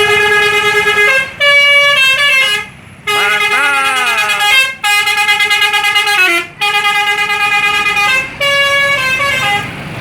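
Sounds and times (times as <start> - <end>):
musical bus horn melody: 0.0 - 9.9.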